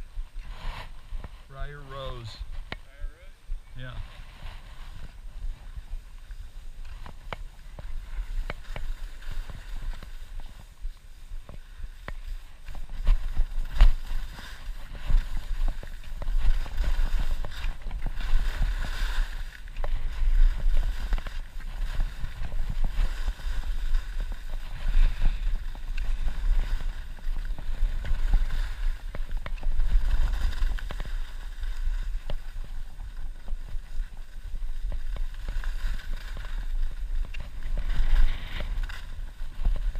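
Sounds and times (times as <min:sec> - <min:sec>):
skis scraping over packed snow: 0:00.0 - 0:39.9
wind rumble on microphone: 0:00.0 - 0:39.9.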